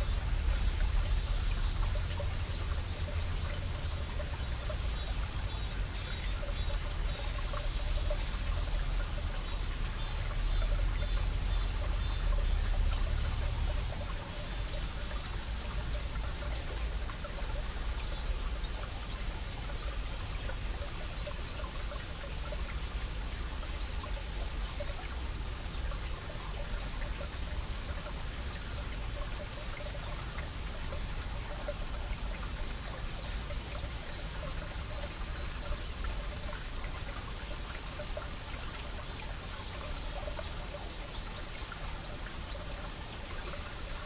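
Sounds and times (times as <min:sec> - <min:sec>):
stream trickling over rocks: 0:00.0 - 0:44.0.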